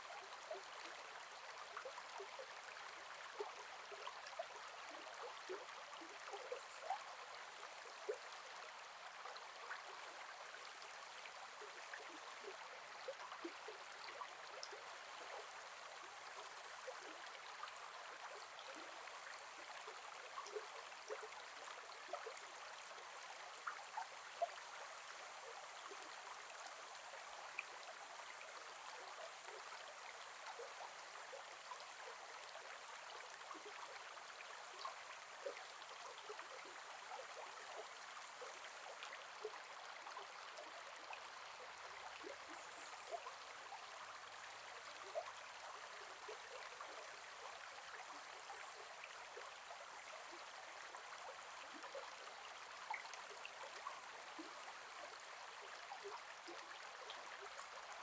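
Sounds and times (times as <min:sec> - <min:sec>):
river flowing gently: 0:00.0 - 0:58.0.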